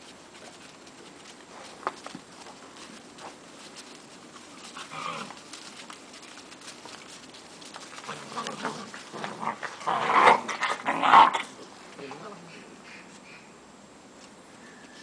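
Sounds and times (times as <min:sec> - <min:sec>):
puppies scuffling: 0:00.0 - 0:12.4.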